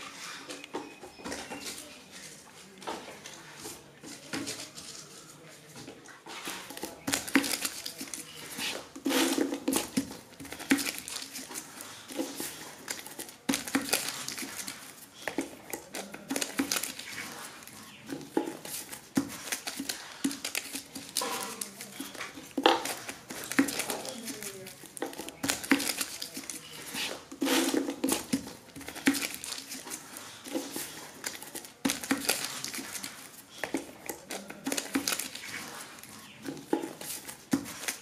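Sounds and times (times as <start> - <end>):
paper rustling: 1.3 - 38.0.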